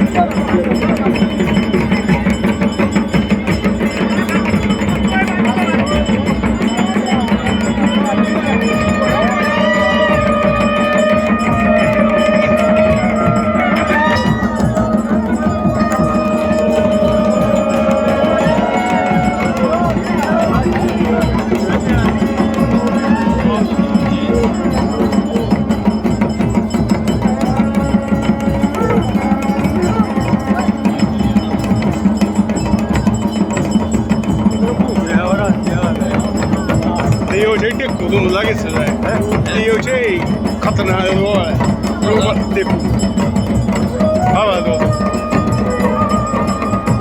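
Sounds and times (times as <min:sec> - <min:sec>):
clanging bells: 0:00.0 - 0:47.0
drums beaten in fast rhythm: 0:00.0 - 0:47.0
wind instruments held tones: 0:00.0 - 0:47.0.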